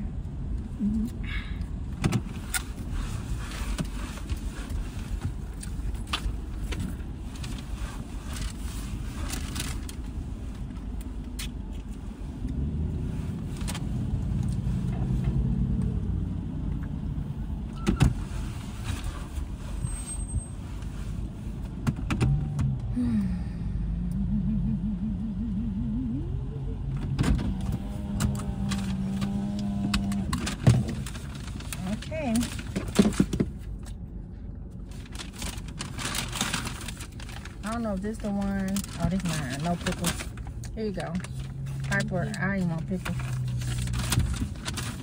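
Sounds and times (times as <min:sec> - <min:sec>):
car engine rumble and road noise: 0:00.0 - 0:45.0.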